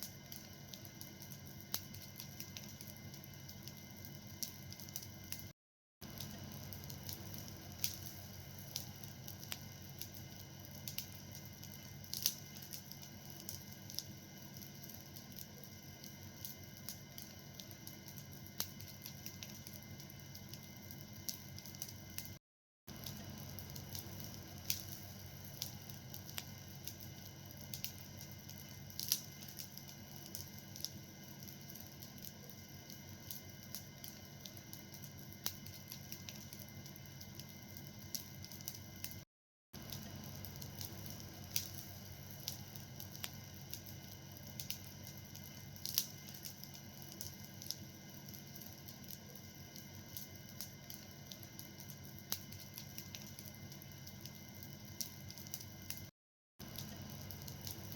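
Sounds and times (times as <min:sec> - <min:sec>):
fire hissing: 0:00.0 - 0:05.4, 0:06.0 - 0:39.2, 0:39.8 - 0:57.9
fire crackling and popping: 0:00.0 - 0:39.2, 0:39.8 - 0:57.9.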